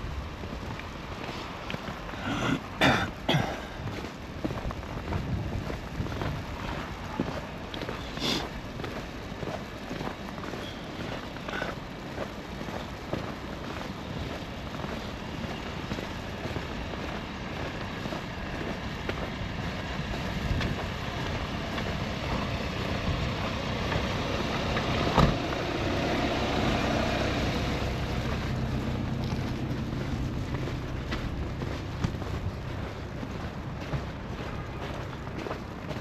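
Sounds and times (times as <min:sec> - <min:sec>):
heavy vehicle engine: 0:00.0 - 0:36.0
street noise: 0:00.0 - 0:36.0.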